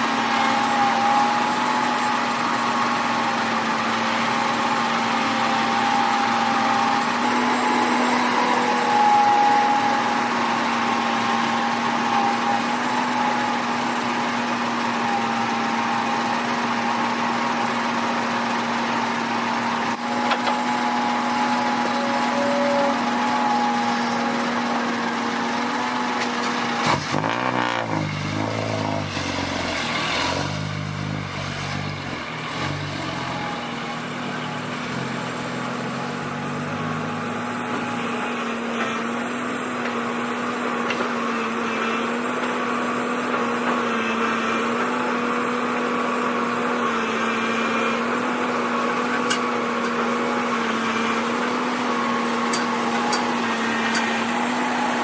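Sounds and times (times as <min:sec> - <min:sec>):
earthmoving machinery engine hum: 0:00.0 - 0:55.0
second engine revving: 0:00.0 - 0:55.0.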